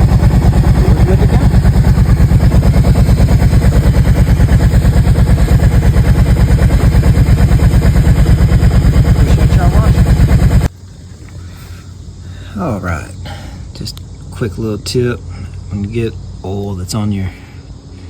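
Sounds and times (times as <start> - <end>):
engine idling: 0.0 - 17.9.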